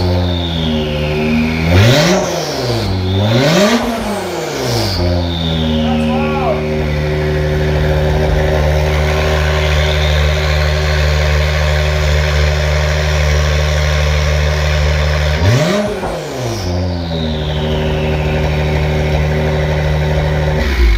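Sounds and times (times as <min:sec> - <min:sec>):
car engine idling: 0:00.0 - 0:20.9
engine rev blip: 0:00.0 - 0:20.9
high whine: 0:00.0 - 0:20.9.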